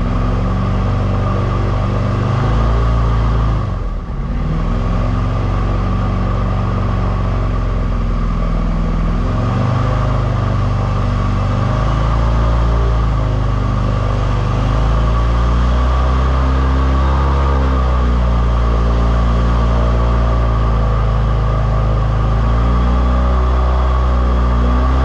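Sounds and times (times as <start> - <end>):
airboat engine and propeller: 0.0 - 25.0.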